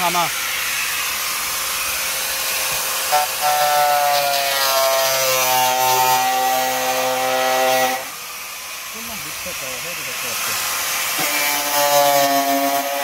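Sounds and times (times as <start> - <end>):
electric cutting tool motor: 0.0 - 13.0
steady hiss: 0.0 - 13.0.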